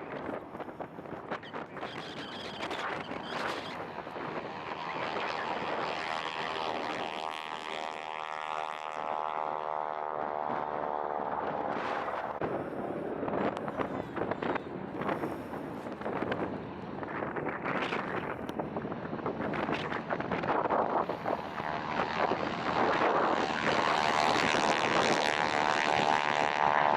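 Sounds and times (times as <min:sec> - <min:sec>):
airplane flying past: 0:00.0 - 0:26.9
wind on microphone: 0:00.0 - 0:26.9.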